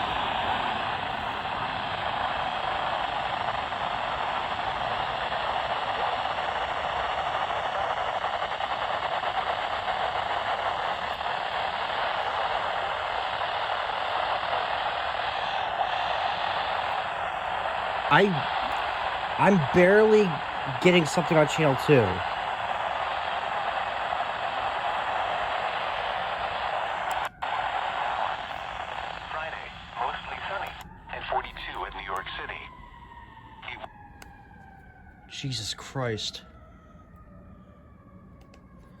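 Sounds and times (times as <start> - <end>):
radio static hiss: 0.0 - 32.9, 33.5 - 34.0.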